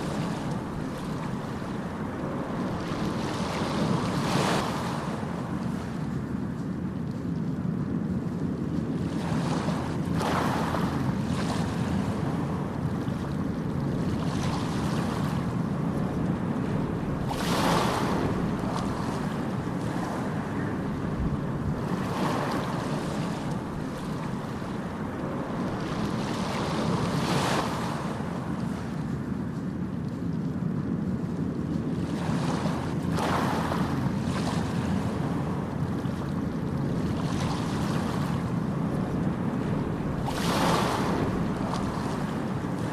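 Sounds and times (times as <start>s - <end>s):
waves breaking: 0.0s - 42.9s.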